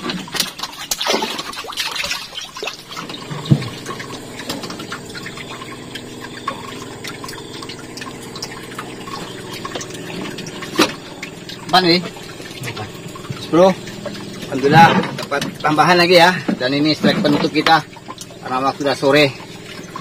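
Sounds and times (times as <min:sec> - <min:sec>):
water splashing and trickling: 0:00.0 - 0:20.0
steady low hum: 0:01.5 - 0:20.0.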